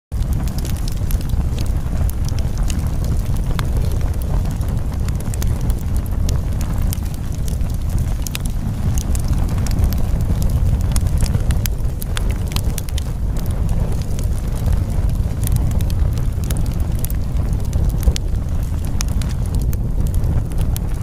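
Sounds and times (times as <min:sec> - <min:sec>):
deep rumbling noise: 0:00.1 - 0:21.0
sharp crackles and clicks: 0:00.1 - 0:21.0.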